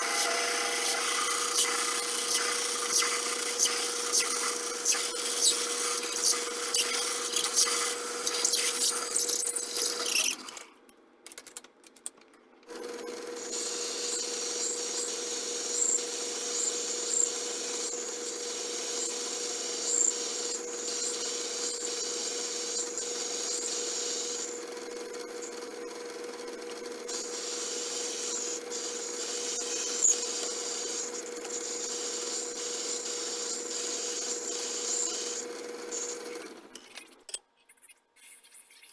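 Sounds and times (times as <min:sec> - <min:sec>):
machine tool cutting metal: 0:00.0 - 0:10.6, 0:13.3 - 0:37.4.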